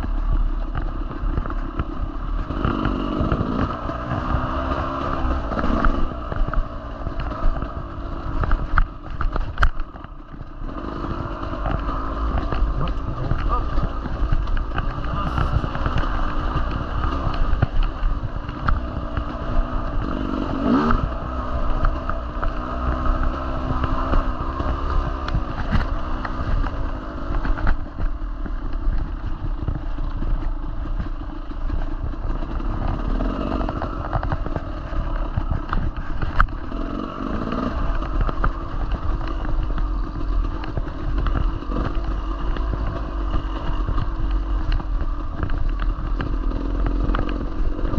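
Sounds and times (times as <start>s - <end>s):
dirt bike engine revving: 0.9s - 47.9s.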